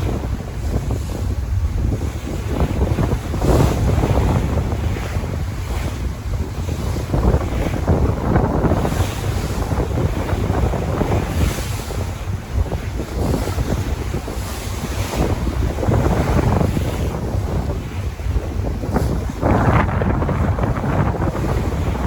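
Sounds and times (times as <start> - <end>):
sea waves breaking: 0.0 - 22.0
wind buffeting microphone: 0.0 - 22.0.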